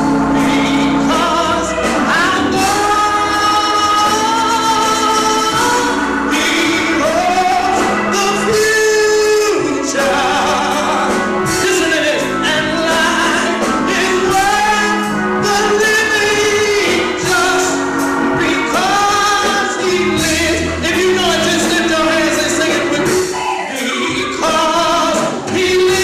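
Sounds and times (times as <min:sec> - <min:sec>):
instrumental backing: 0:00.0 - 0:26.0
person singing gospel: 0:00.0 - 0:26.0.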